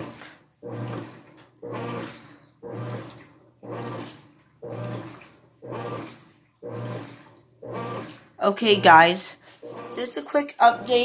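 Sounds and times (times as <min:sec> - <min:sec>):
washing machine agitating: 0:00.0 - 0:11.0.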